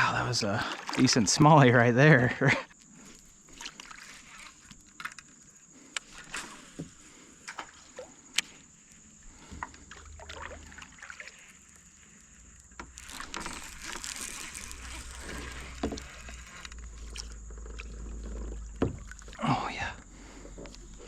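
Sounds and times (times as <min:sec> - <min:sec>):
water sloshing around kayak: 0:00.1 - 0:21.0.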